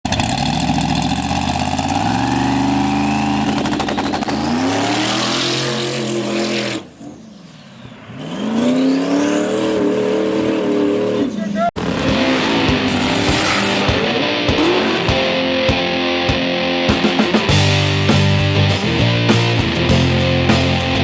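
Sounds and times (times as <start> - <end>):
drag car engine accelerating: 0.0 - 21.0.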